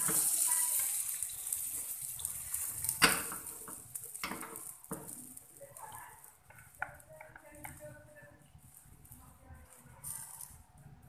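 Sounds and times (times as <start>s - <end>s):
batter sizzling in frying pan: 0.0s - 11.0s.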